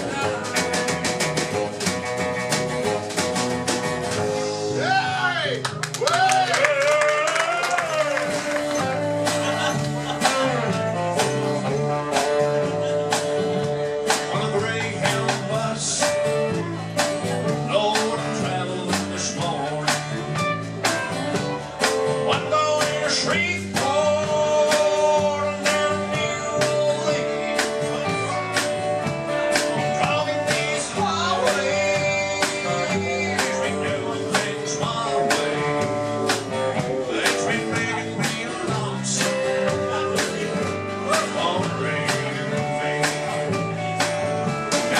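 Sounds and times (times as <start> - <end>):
guitars playing: 0.0 - 44.9
steady drum beat: 0.0 - 44.9.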